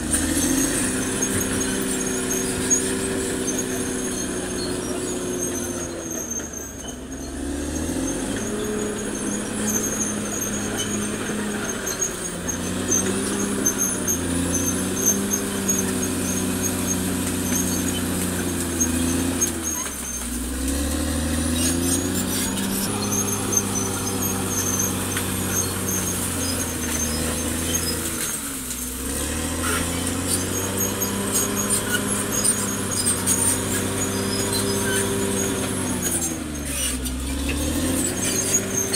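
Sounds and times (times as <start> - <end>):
bulldozer diesel engine under load: 0.0 - 38.9
high squeal: 0.0 - 38.9.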